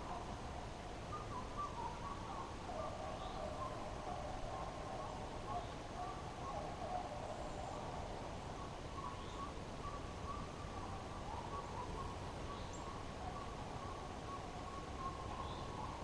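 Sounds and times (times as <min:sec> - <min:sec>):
distant hounds baying: 0:00.0 - 0:16.0.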